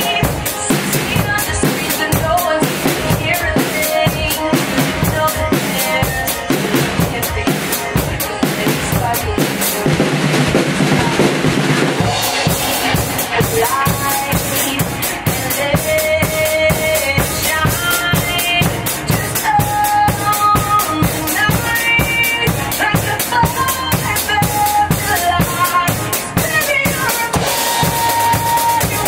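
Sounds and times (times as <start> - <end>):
acoustic drum kit playing: 0.0 - 29.0
pop backing track: 0.0 - 29.0.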